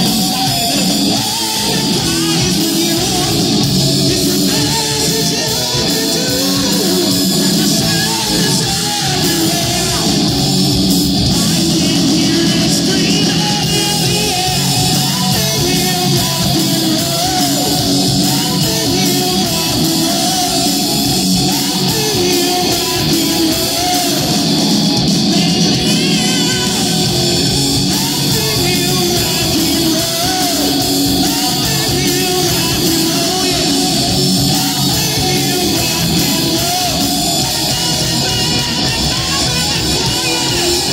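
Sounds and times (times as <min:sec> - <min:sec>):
distorted electric guitars: 0:00.0 - 0:40.9
man singing into microphone: 0:00.0 - 0:40.9
steady drum beat: 0:00.0 - 0:40.9.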